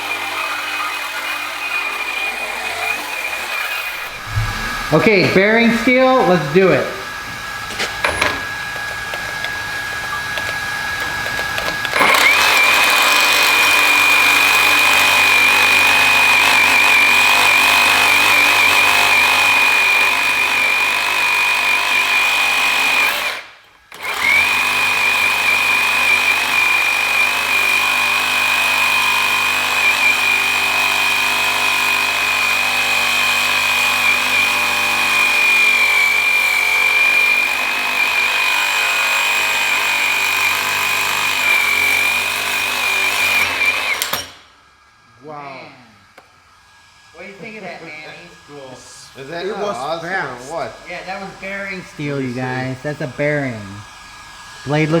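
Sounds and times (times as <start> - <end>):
reciprocating saw cutting steel: 0.0 - 44.5.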